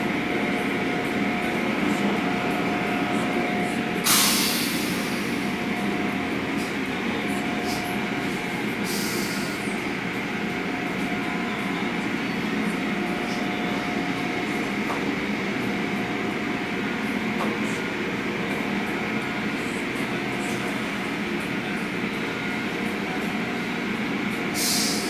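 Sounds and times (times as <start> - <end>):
car wash machinery rumble: 0.0 - 25.0.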